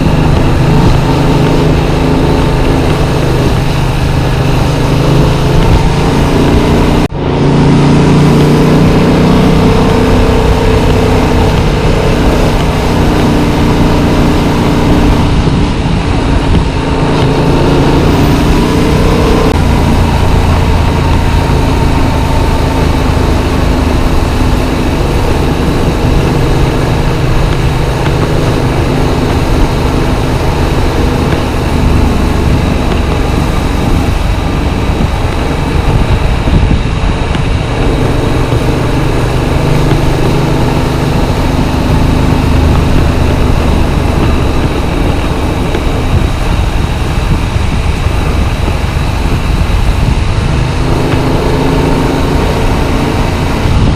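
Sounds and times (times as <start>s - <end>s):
motorcycle engine running: 0.0s - 53.9s
wind rush on microphone: 0.0s - 53.9s.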